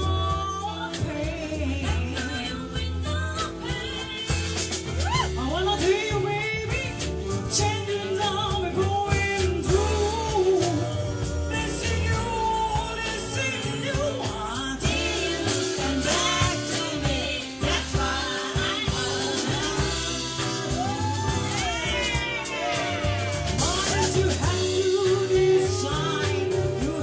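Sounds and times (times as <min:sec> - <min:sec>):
lead vocal singing: 0:00.0 - 0:27.0
soul band playing live: 0:00.0 - 0:27.0.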